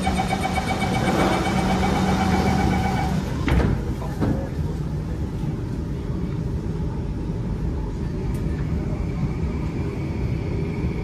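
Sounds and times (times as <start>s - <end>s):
train carriage low rumble: 0.0s - 11.0s.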